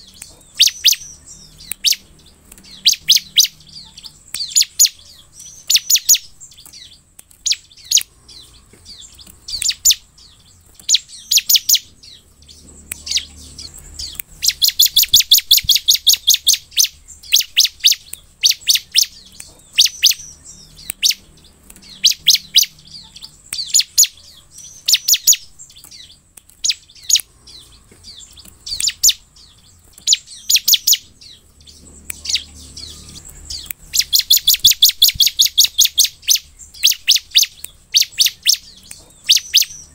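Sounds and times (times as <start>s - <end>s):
bird high chirps: 0.0s - 39.9s.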